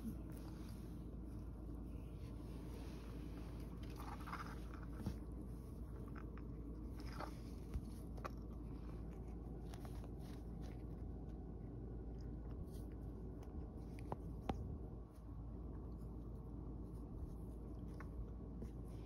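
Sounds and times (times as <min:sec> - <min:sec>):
steady low hum: 0:00.0 - 0:19.0
cat gnawing at hand: 0:03.6 - 0:19.0.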